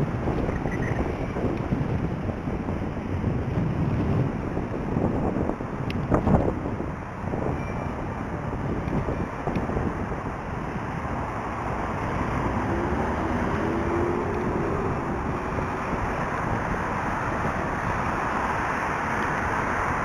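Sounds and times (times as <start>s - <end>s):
road traffic noise: 0.0s - 20.0s
wind on microphone: 0.0s - 20.0s.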